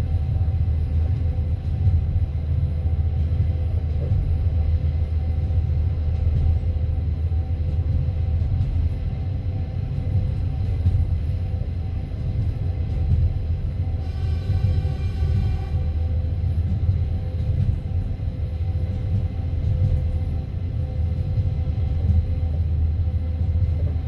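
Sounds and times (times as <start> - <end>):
train carriage rumble: 0.0 - 24.0
train wheels on rails: 0.0 - 24.0.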